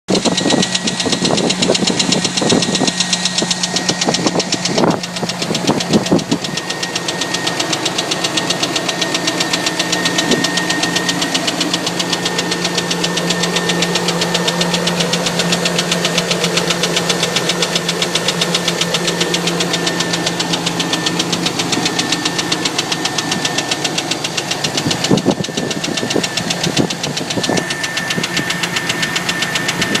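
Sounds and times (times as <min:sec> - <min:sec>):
rapid engine ticking: 0:00.0 - 0:30.0
truck engine running: 0:00.1 - 0:30.0.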